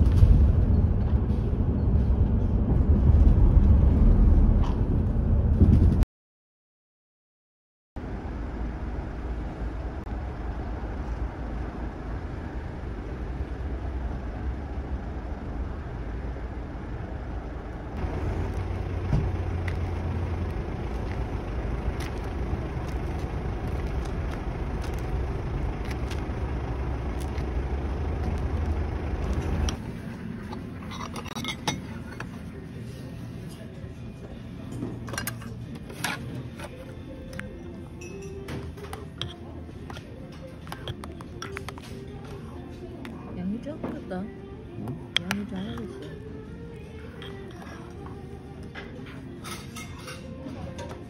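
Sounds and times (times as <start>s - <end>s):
low outdoor rumble: 0.0s - 6.0s, 8.0s - 51.0s.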